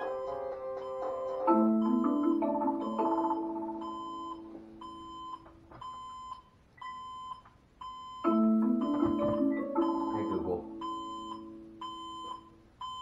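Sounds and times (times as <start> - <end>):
marimba-like alarm melody: 0.0 - 6.1, 8.0 - 12.6
electronic alarm beeping: 0.0 - 13.0.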